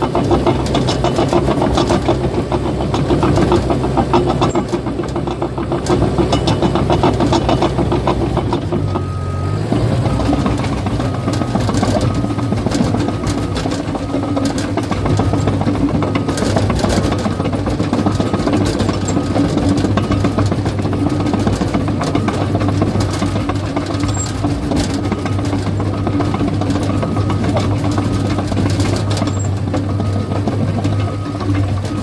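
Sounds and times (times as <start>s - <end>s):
bulldozer diesel engine running: 0.0s - 32.0s
steel tracks clanking: 0.0s - 32.0s.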